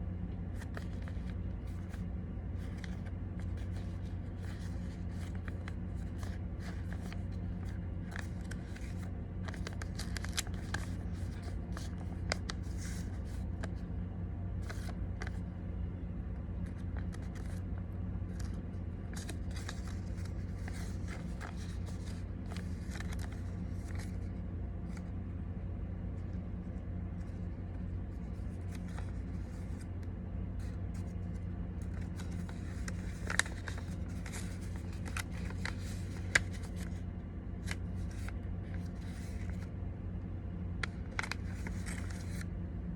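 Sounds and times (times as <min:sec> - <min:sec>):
steady low hum: 0:00.0 - 0:42.9
paper being folded: 0:00.2 - 0:14.0, 0:14.6 - 0:15.6, 0:16.5 - 0:25.2, 0:26.2 - 0:39.8, 0:40.7 - 0:42.5.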